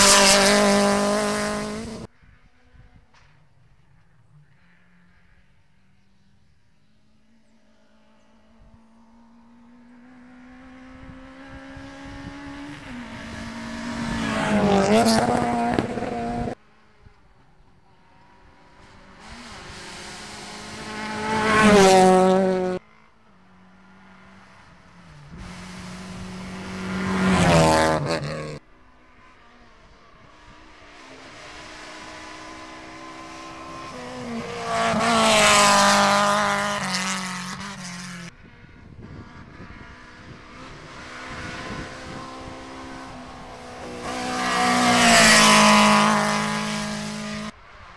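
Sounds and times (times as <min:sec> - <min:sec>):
rally cars racing past: 0:00.0 - 0:47.9.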